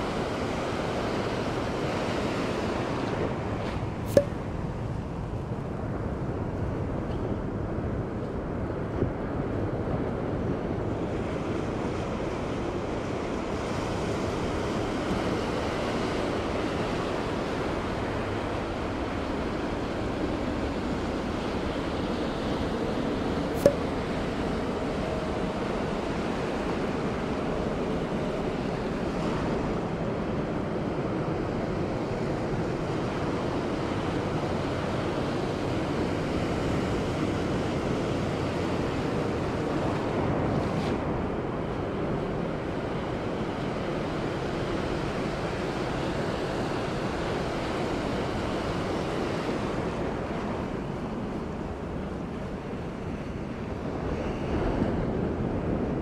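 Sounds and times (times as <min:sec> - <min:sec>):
waves breaking on beach: 0:00.0 - 0:06.9, 0:07.8 - 0:56.0.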